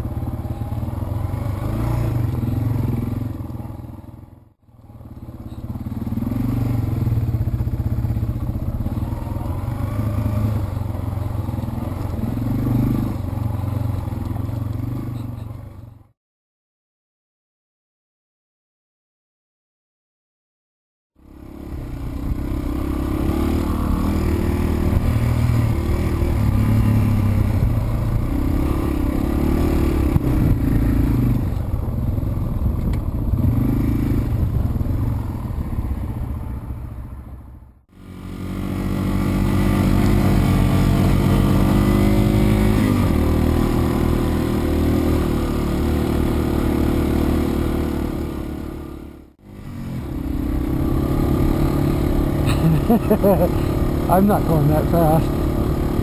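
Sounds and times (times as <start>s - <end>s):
motorcycle engine revving: 0.0s - 15.9s, 21.2s - 36.8s, 37.9s - 56.0s.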